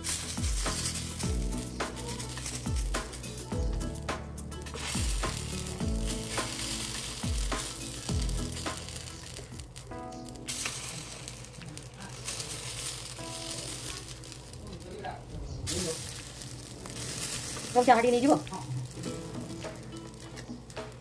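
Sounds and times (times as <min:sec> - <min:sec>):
batter sizzling on a hot griddle: 0:00.0 - 0:21.0.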